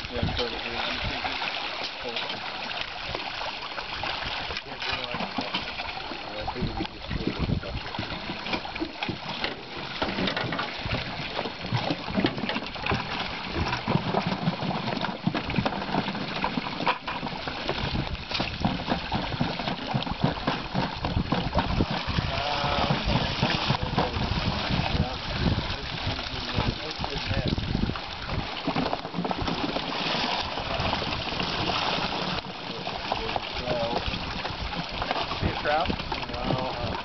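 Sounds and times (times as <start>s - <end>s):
dip nets scooping fish: 0.0s - 37.0s
fish thrashing and splashing: 0.0s - 37.0s
water pouring off nets: 0.0s - 37.0s.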